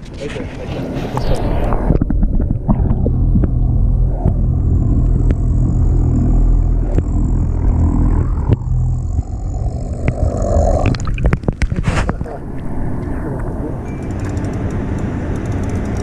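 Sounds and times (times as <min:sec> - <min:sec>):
boat motor rumbling: 0:01.8 - 0:16.0.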